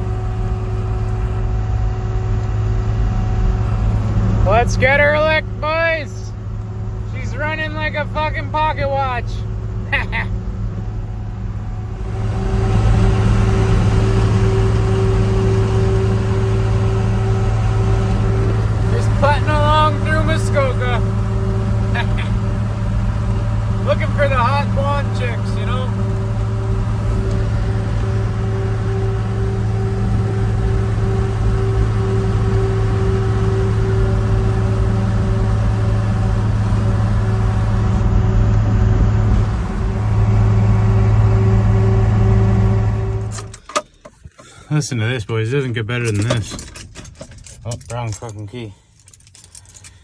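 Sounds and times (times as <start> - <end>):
pickup engine and road noise: 0.0 - 50.0.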